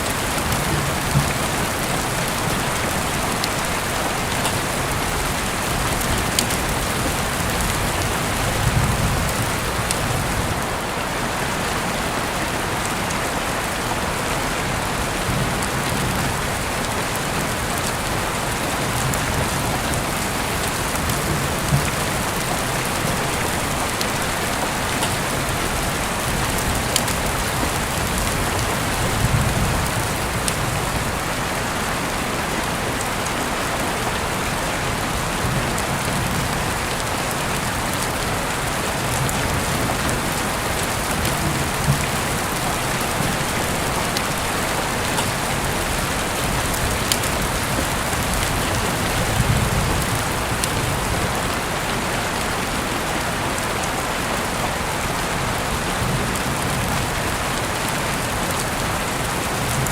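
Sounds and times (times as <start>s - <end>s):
heavy rain falling: 0.0s - 59.9s
raindrops ticking close by: 0.0s - 59.9s.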